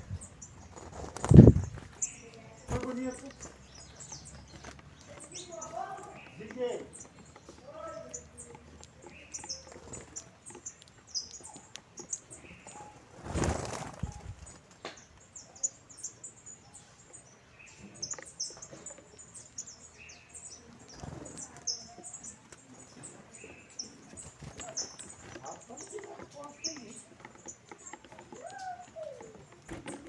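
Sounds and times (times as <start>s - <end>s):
finches chirping: 0.0s - 30.0s.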